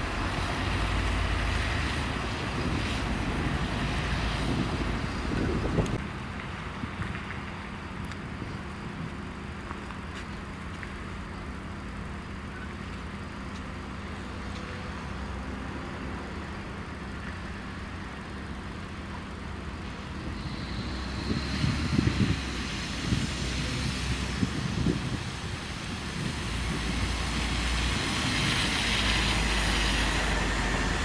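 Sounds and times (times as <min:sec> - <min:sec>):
bus engine hum: 0:00.0 - 0:31.0
traffic noise: 0:00.0 - 0:31.0.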